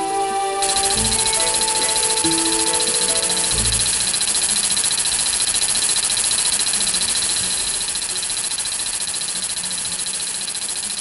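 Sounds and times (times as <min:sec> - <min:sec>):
cicada buzzing: 0:00.6 - 0:11.0.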